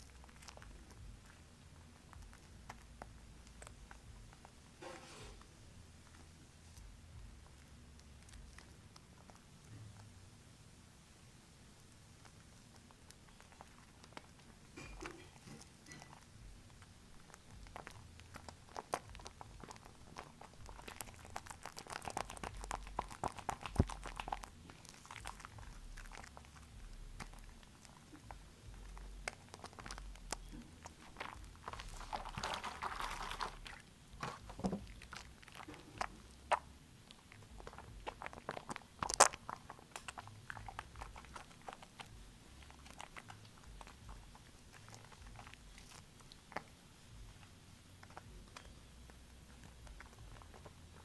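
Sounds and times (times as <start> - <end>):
soap foam squishing and crackling: 0.0 - 10.4, 11.1 - 51.0.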